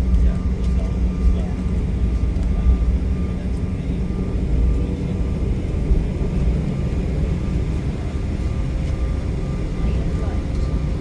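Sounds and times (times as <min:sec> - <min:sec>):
faint jet engine whine: 0:00.0 - 0:11.0
jet cabin rumble: 0:00.0 - 0:11.0.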